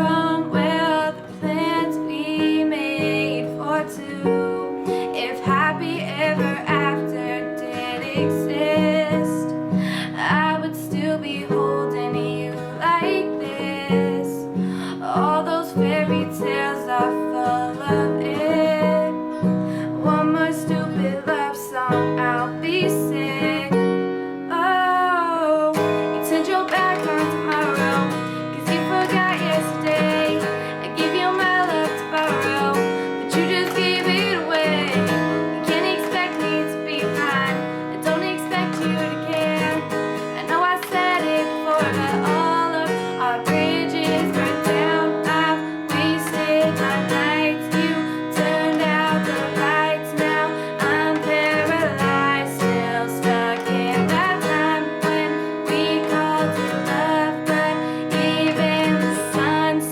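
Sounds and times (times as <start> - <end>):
strummed acoustic guitar: 0.0 - 59.9
woman singing: 0.0 - 59.9.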